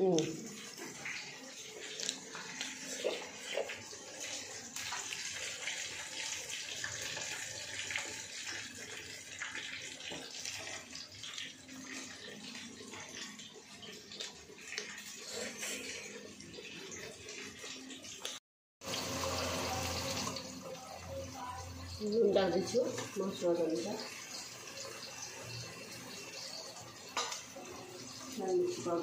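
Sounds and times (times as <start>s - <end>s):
hot oil sizzling: 0.0s - 29.0s.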